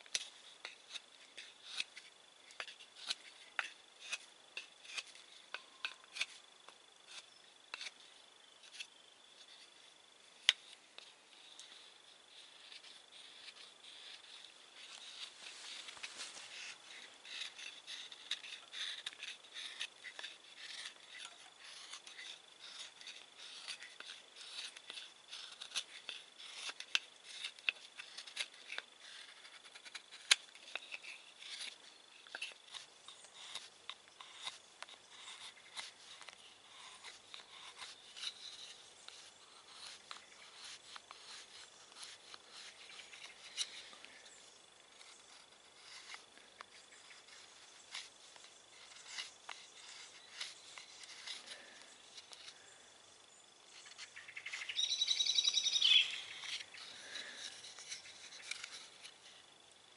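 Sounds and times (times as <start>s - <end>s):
knife scraping wood: 0.0s - 52.8s, 53.7s - 59.7s.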